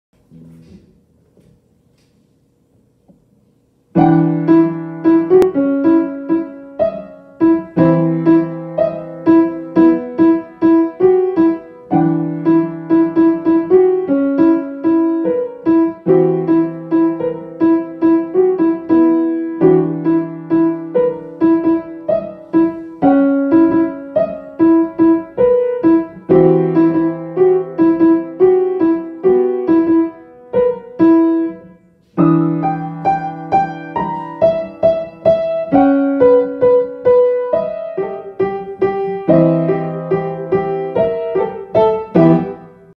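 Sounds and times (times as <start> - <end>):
piano music: 3.9 - 42.9.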